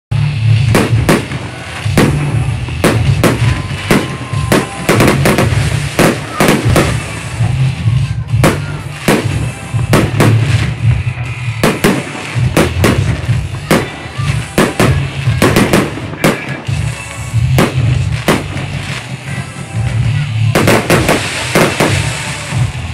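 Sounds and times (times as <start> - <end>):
fireworks bursting: 0.1 - 22.9
heavy low rumble: 0.1 - 22.9.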